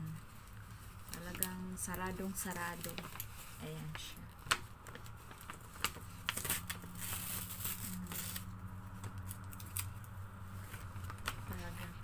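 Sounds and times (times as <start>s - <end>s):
paper envelope crinkling: 0.5s - 12.0s.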